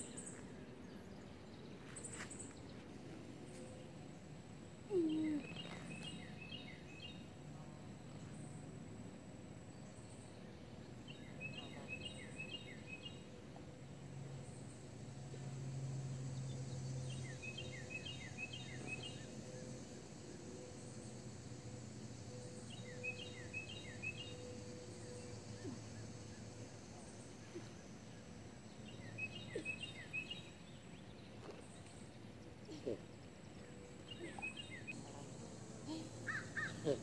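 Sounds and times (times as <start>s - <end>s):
songbird chirping: 0.0s - 8.7s, 9.7s - 13.4s, 16.1s - 37.0s
low steady hum: 0.0s - 37.0s.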